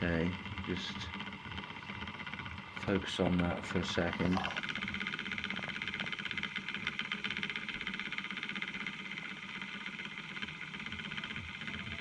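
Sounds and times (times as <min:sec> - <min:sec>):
spinner motor buzzing rattle: 0:00.0 - 0:12.0.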